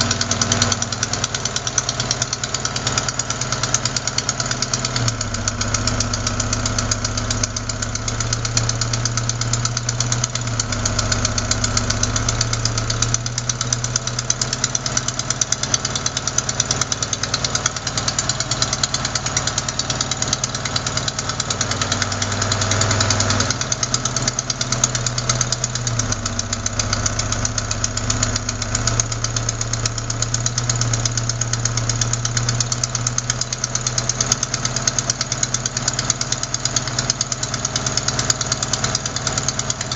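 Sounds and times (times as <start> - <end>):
car engine idling with ticking knock: 0.0 - 39.9.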